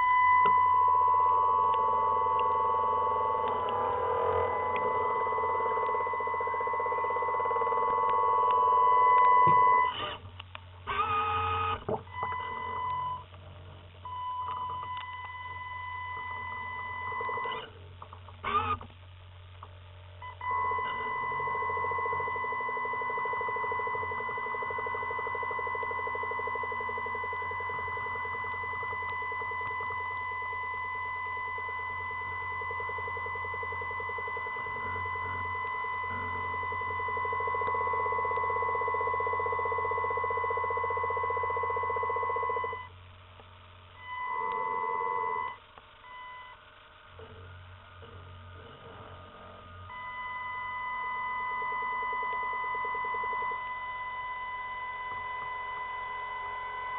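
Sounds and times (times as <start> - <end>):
constant low hum: 0.0 - 56.9
steady buzzing tone: 0.0 - 56.9.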